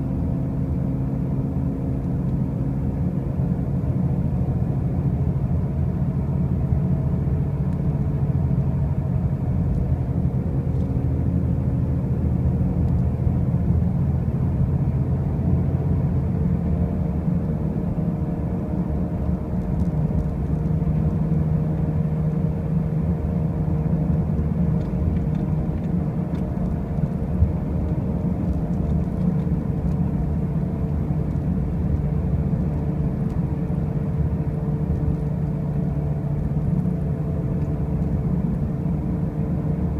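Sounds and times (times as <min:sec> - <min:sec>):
car driving low rumble: 0:00.0 - 0:39.9.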